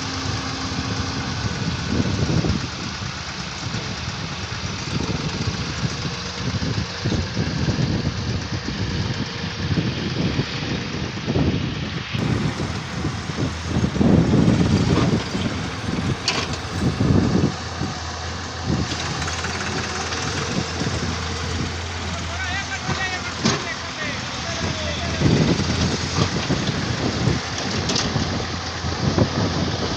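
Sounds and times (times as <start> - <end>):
excavator diesel engine rumble: 0.0 - 29.9.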